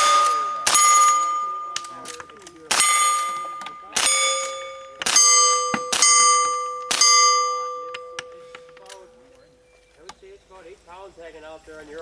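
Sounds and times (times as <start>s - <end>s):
metal struck and ringing: 0.0s - 9.7s.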